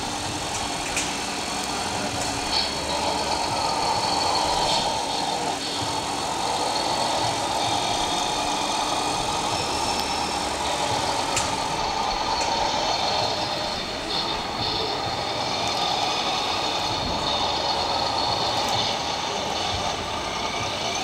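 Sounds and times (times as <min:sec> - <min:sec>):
exhibition hall background noise: 0:00.0 - 0:21.0
model truck engine idling: 0:00.0 - 0:21.0.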